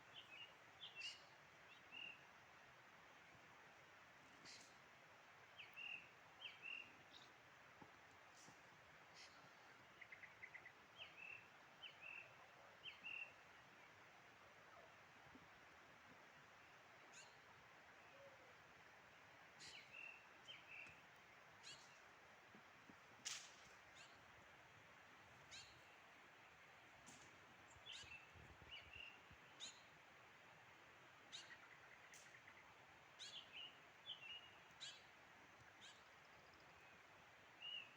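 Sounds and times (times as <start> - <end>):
steady faint hiss: 0.0 - 37.9.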